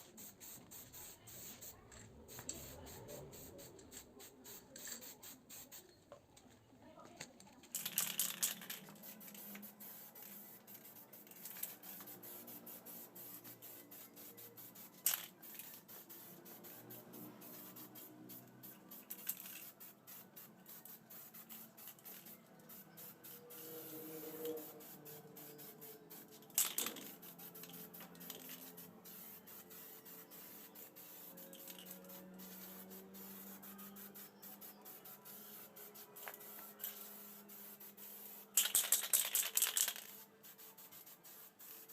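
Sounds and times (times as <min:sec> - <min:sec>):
aerosol spray can hissing: 0:00.0 - 0:05.9, 0:07.8 - 0:41.9
faint background music: 0:00.2 - 0:41.9.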